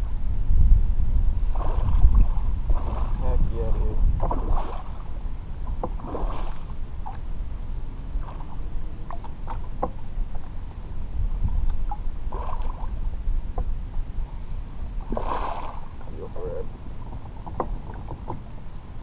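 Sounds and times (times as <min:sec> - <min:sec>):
wind rumble on microphone: 0:00.0 - 0:19.0
water lapping against hull: 0:01.3 - 0:19.0.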